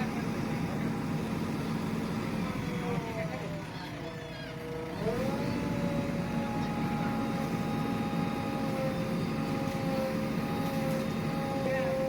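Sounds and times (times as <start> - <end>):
backhoe engine running: 0.0 - 12.0
engine whine: 0.0 - 12.0.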